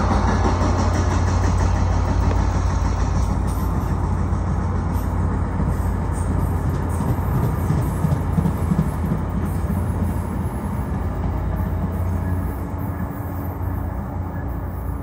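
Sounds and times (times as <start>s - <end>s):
diesel locomotive engine rumble: 0.0s - 15.0s
train rolling rail noise: 0.0s - 15.0s.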